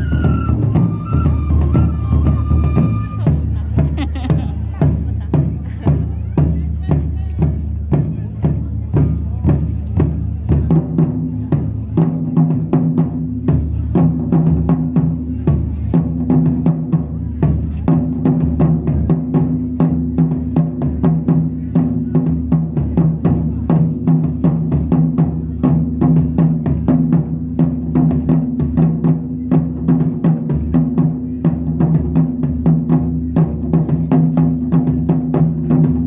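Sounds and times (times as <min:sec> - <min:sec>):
taiko drums beating: 0:00.0 - 0:36.0.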